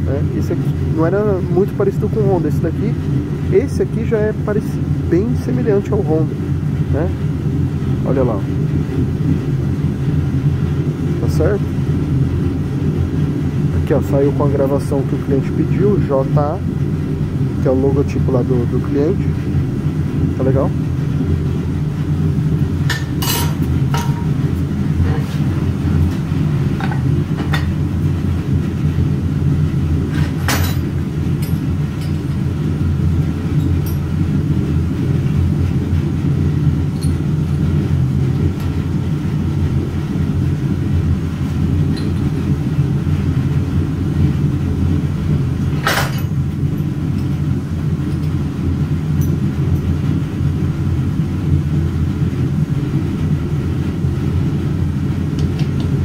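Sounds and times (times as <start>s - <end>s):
low mechanical rumble: 0.0s - 56.0s.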